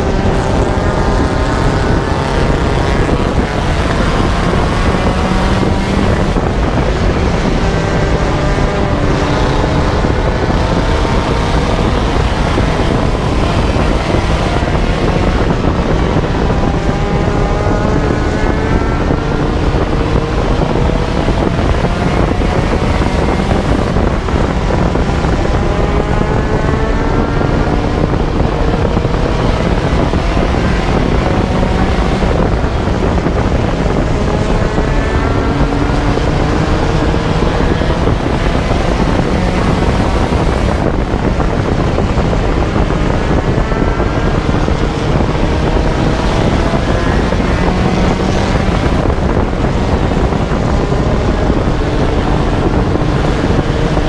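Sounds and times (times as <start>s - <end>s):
race car engine accelerating: 0.0s - 54.0s
wind and road noise: 0.0s - 54.0s.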